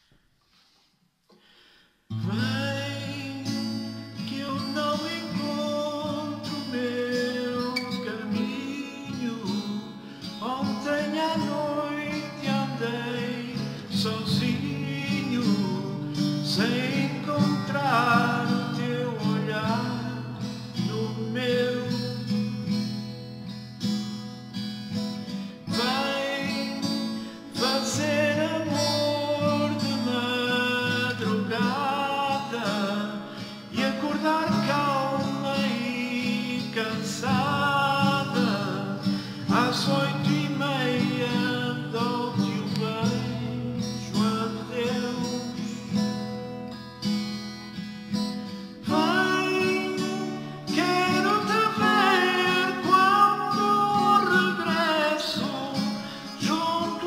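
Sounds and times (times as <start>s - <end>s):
acoustic guitar: 0.0s - 57.0s
man singing a ballad: 2.1s - 22.8s, 25.3s - 46.4s, 48.2s - 57.0s.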